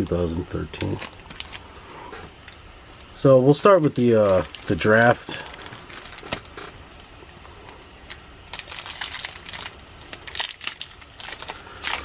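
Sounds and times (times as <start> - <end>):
foil wrapper crinkling: 0.0 - 1.8, 2.4 - 12.0.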